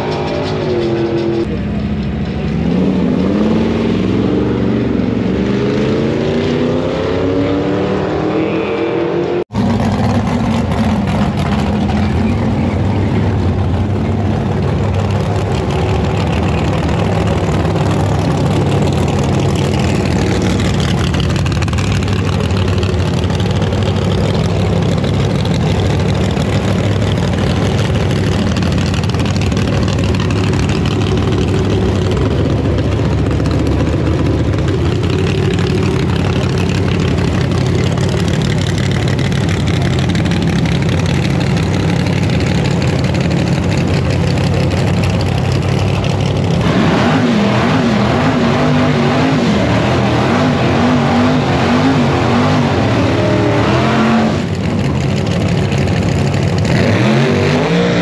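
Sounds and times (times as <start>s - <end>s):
car engine revving: 0.0s - 58.0s
engine droning steadily: 0.0s - 58.0s.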